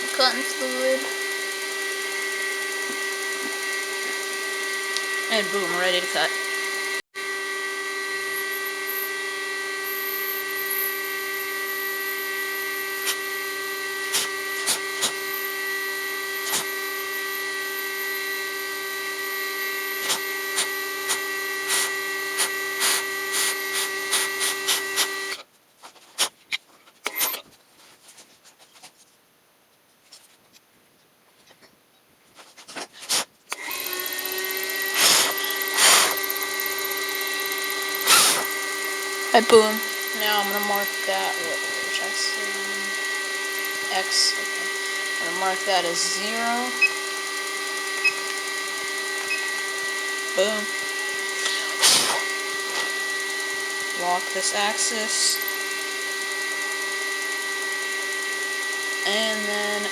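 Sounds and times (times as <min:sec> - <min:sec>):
cutter ticking on metal: 0:00.0 - 0:07.0, 0:08.2 - 0:25.4, 0:33.5 - 0:59.9
milling machine spindle whine: 0:00.0 - 0:25.4, 0:33.5 - 0:59.9.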